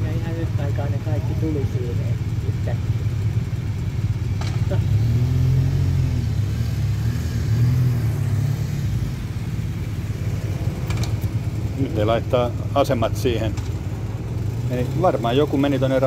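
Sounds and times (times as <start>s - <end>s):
motorcycle engines running: 0.0s - 16.0s
motorcycle revving and pulling away: 0.0s - 16.0s.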